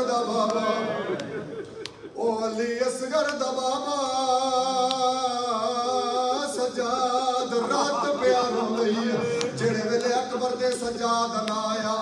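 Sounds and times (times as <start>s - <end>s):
man singing a mourning lament: 2.1s - 12.0s.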